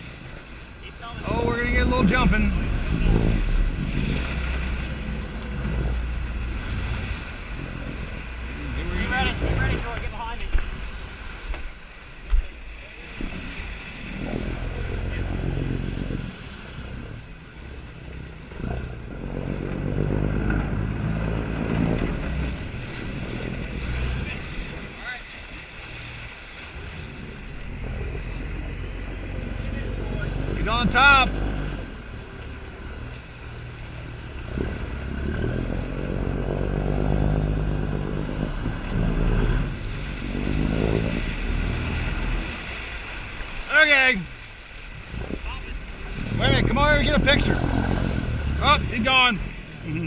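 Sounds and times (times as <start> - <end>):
boat engines droning: 0.0 - 50.0.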